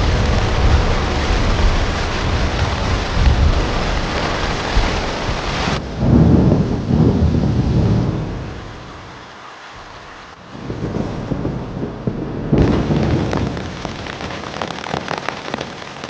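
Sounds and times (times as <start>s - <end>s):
heavy rain hissing: 0.0s - 16.0s
thunder rumbling: 0.0s - 16.0s.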